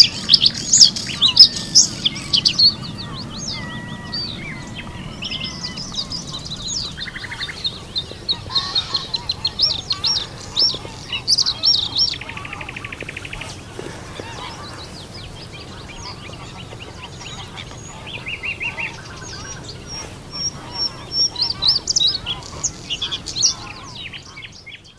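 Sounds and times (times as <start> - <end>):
songbirds singing: 0.0 - 24.9.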